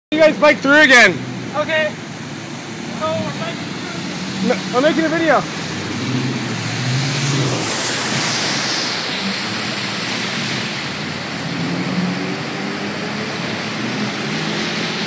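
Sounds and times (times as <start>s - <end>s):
heavy rain pouring: 0.1s - 15.0s.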